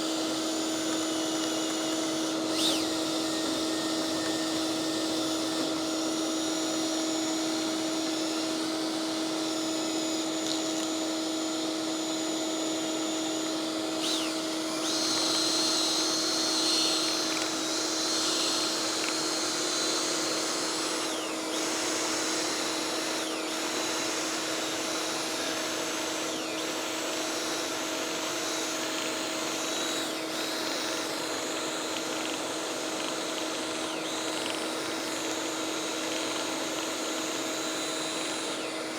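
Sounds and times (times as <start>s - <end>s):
drill whirring whine: 0.0s - 38.9s
shop vacuum motor hum: 0.0s - 38.9s.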